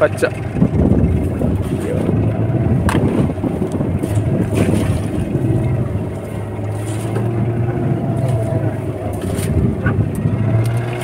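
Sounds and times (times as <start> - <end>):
choppy water: 0.0 - 11.0
outboard engine droning: 0.0 - 11.0
wind rushing: 0.5 - 10.6.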